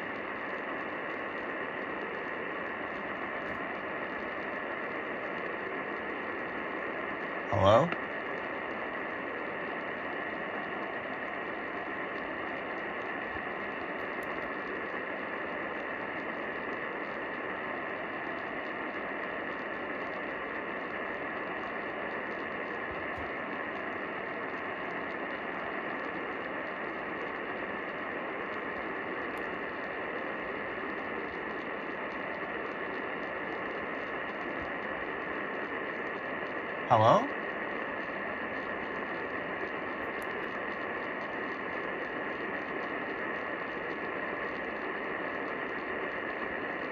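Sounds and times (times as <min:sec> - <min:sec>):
radio static hiss: 0:00.0 - 0:46.9.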